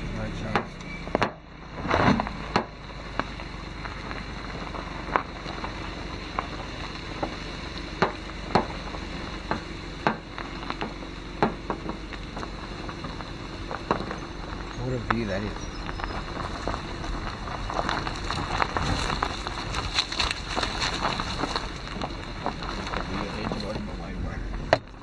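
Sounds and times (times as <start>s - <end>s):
car tyres crunching on dirt track: 0.0s - 25.0s
twigs cracking and snapping: 1.9s - 23.8s.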